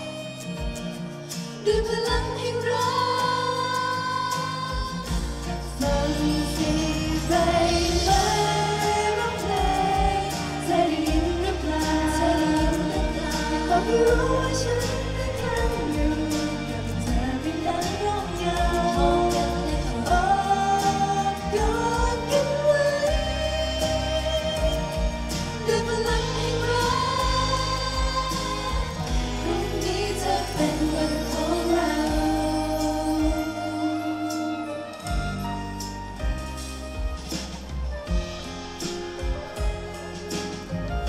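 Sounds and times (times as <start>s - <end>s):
girl group singing live: 0.0s - 35.2s
pop backing track with beat: 0.0s - 41.0s.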